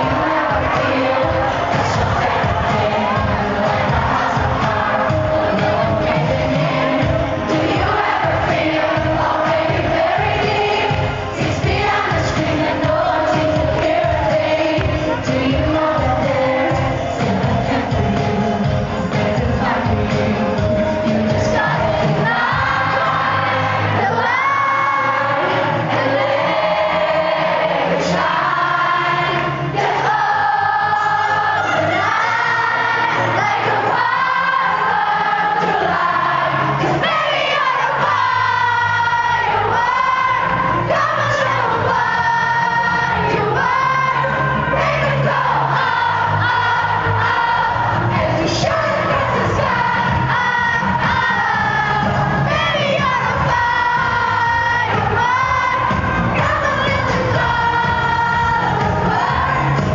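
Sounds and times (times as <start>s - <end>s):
audience singing along: 0.0s - 59.9s
loud amplified band: 0.0s - 59.9s
woman singing lead: 0.0s - 59.9s.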